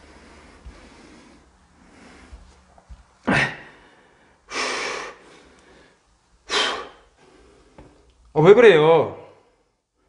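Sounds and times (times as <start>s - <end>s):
person breathing hard: 0.0s - 8.1s.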